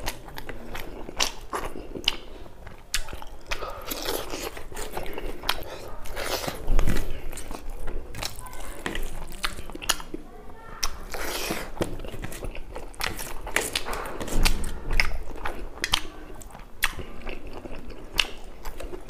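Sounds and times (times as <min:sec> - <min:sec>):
close chewing with wet mouth clicks: 0:00.0 - 0:10.2, 0:10.8 - 0:19.0.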